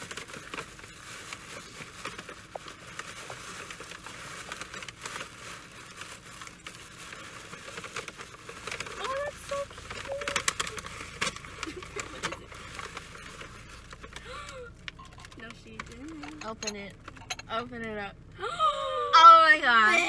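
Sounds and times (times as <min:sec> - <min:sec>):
tissue paper and gift bag rustling: 0:00.0 - 0:17.4.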